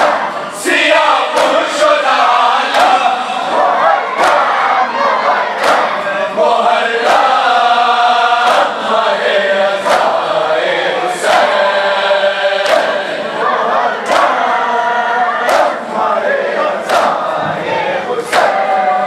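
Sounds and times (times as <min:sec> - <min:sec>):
hands slapping chests in unison: 0:00.0 - 0:06.2, 0:07.0 - 0:11.8, 0:12.5 - 0:14.7, 0:15.4 - 0:19.0
men chanting a lament: 0:00.0 - 0:19.0.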